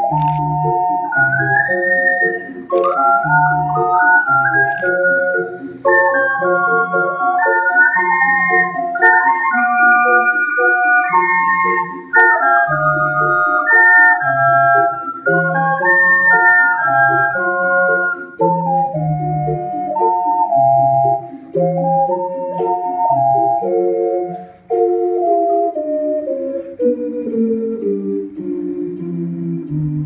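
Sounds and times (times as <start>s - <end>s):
ocarina ensemble playing: 0.0s - 30.0s.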